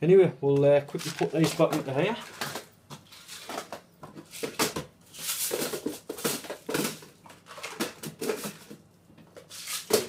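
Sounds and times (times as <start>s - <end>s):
plastic containers clicking and rattling: 0.9s - 10.0s.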